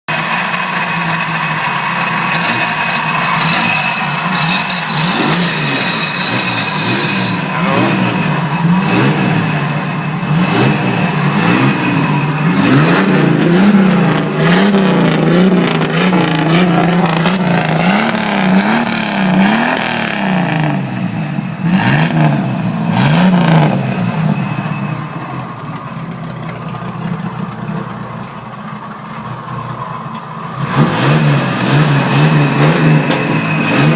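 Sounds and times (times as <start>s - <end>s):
high whine: 0.1s - 33.9s
car engine revving: 1.9s - 33.9s.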